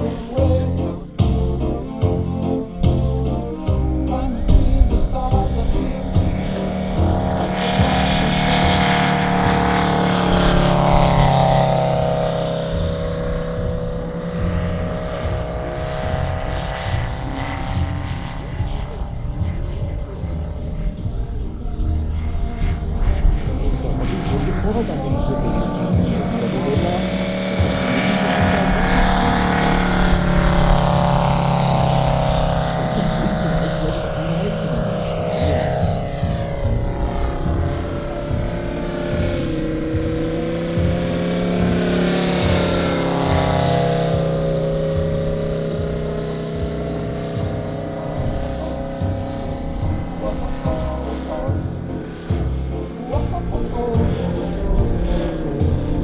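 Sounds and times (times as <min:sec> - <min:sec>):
radial engine of model plane: 0:00.0 - 0:56.0.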